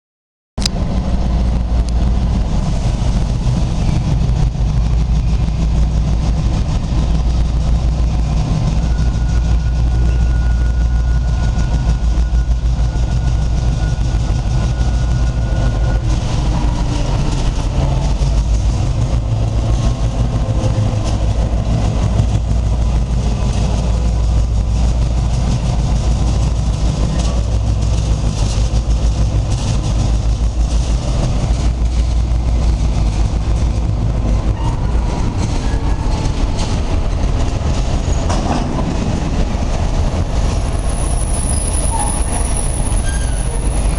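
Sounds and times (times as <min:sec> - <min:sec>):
diesel locomotive engine droning: 0:00.6 - 0:43.9.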